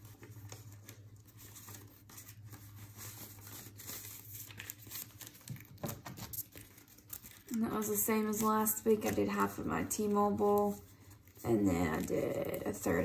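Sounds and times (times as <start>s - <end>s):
low steady hum: 0.0s - 13.0s
paper bills rustling: 0.0s - 13.0s.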